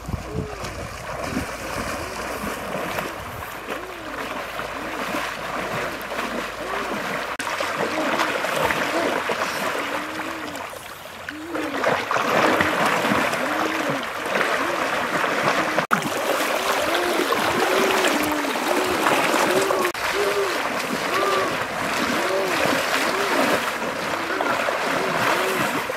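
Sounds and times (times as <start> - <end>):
river water splashing: 0.0 - 25.9
water gurgling: 0.0 - 25.9.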